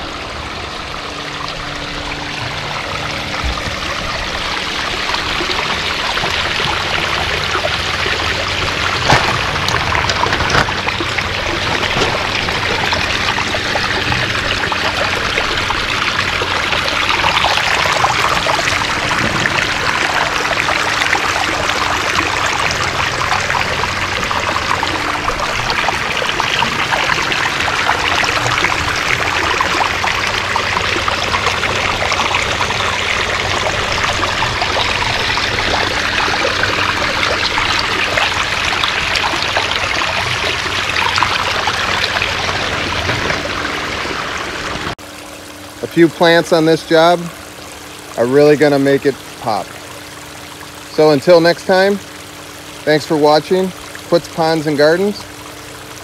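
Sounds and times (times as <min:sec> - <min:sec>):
water splashing over rocks: 0:00.0 - 0:56.0.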